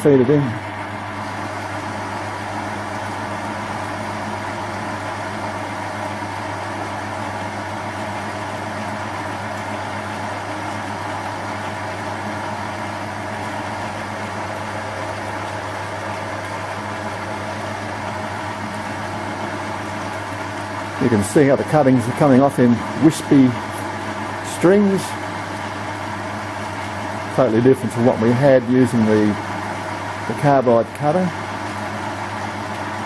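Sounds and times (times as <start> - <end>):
lathe motor humming: 0.0 - 33.0.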